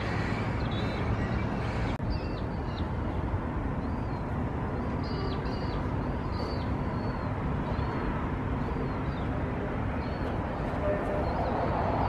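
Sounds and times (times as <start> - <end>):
small birds chirping: 0.0 - 11.7.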